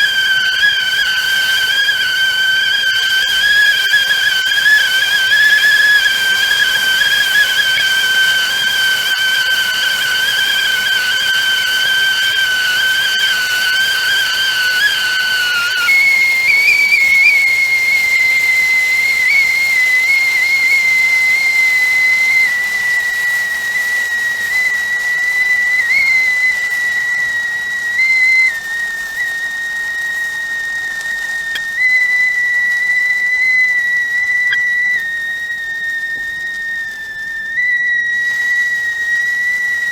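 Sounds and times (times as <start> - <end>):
kettle whistling: 0.0 - 39.9
steam hissing: 0.0 - 39.9.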